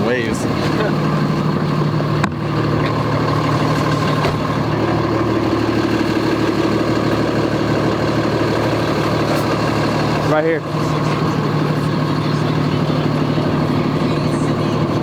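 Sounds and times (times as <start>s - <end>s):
diesel pickup engine droning: 0.0s - 15.0s.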